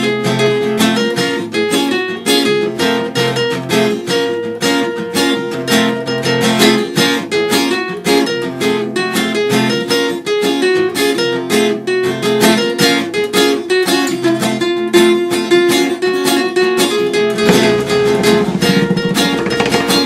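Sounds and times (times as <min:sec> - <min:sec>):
fast strummed guitar: 0:00.0 - 0:20.0.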